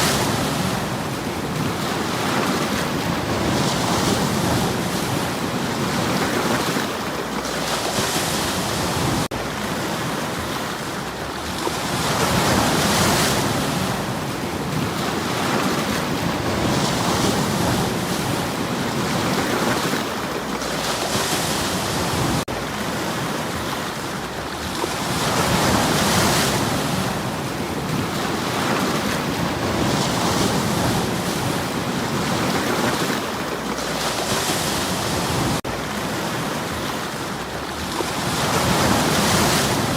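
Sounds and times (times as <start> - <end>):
waves washing over stones: 0.0 - 39.9.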